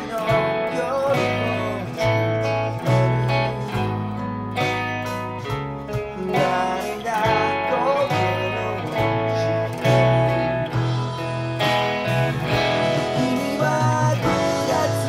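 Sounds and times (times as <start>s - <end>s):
electric guitar strumming chords: 0.0s - 15.0s
recorded band track with singing: 0.0s - 15.0s.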